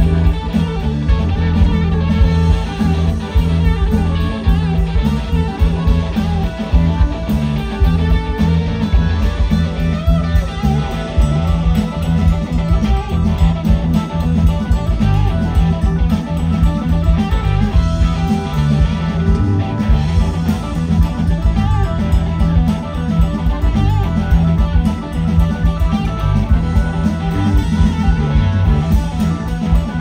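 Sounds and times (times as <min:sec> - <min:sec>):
drums: 0:00.0 - 0:30.0
electric guitar lead with bending notes: 0:00.0 - 0:30.0
keyboard: 0:00.0 - 0:30.0.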